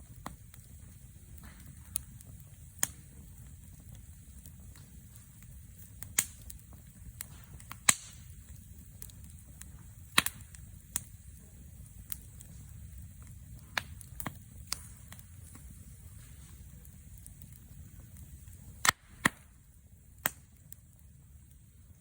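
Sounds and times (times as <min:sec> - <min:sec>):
campfire crackling and popping: 0:00.0 - 0:22.0
low steady rumble: 0:00.0 - 0:22.0.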